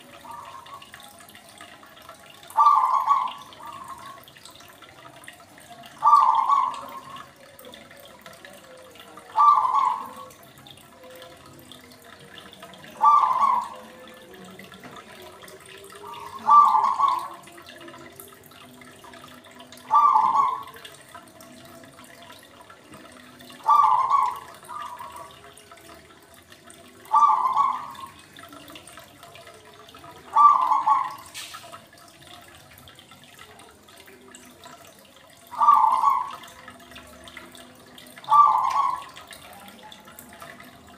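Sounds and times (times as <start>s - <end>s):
aquarium water gurgling: 0.0s - 40.9s.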